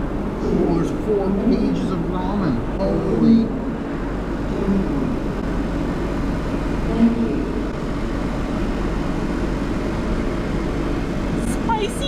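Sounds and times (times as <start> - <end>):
distant voices murmuring: 0.0 - 12.0
train station rumble: 0.0 - 12.0.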